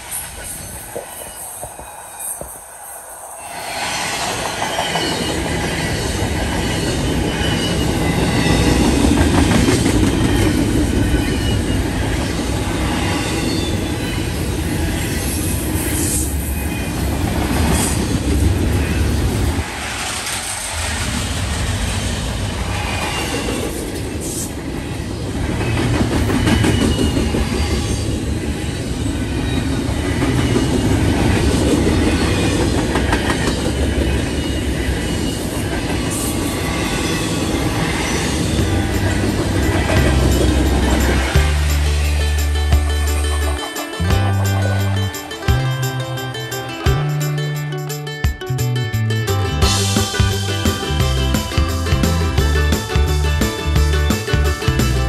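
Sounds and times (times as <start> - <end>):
train wheels clattering: 0.0 - 48.4, 49.0 - 55.0
train rolling rumble: 0.0 - 55.0.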